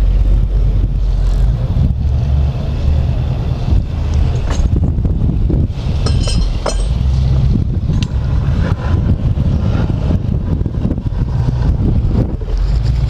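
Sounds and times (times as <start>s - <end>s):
boat engine running: 0.0s - 13.0s
wind rumbling on microphone: 0.0s - 13.0s.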